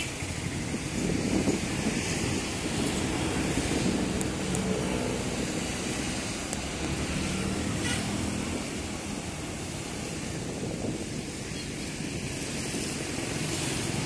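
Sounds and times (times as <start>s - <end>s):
low engine hum: 0.0s - 14.0s
small waves washing on sand: 0.0s - 14.0s
wind on microphone: 0.0s - 14.0s.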